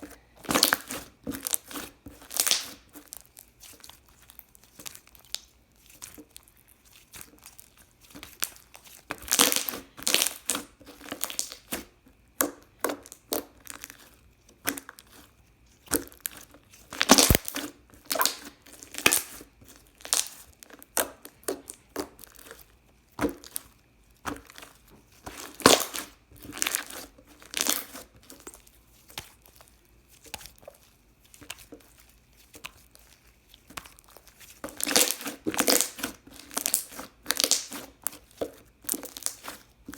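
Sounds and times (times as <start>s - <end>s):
slime crackling and popping: 0.4s - 11.8s, 15.8s - 39.9s.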